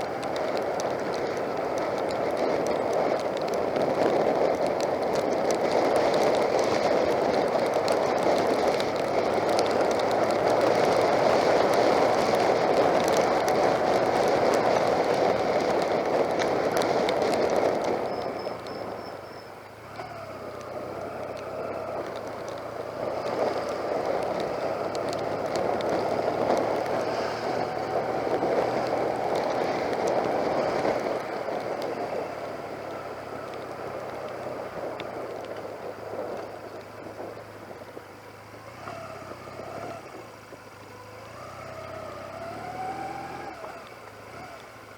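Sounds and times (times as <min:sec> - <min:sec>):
motorbike engine: 0:00.0 - 0:44.9
wind and rain rush: 0:00.0 - 0:44.9.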